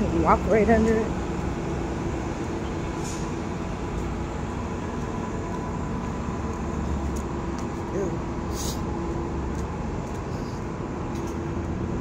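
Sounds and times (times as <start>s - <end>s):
city street rumble: 0.0s - 12.0s.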